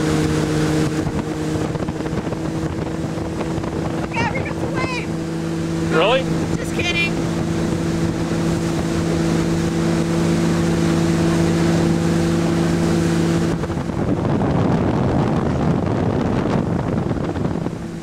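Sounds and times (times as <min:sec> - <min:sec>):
motorboat engine running: 0:00.0 - 0:18.0
water and wind rushing: 0:00.0 - 0:18.0.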